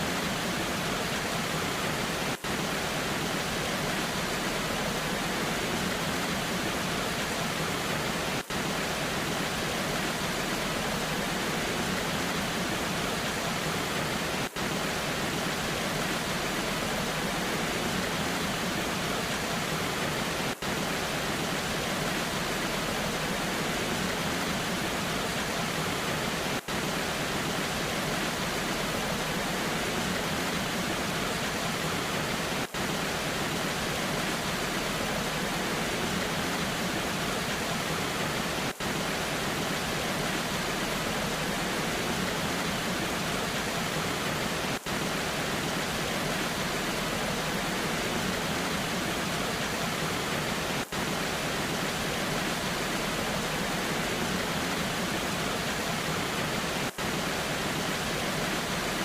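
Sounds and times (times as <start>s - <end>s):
rain: 0.0s - 59.0s
waterfall rushing: 0.0s - 59.0s.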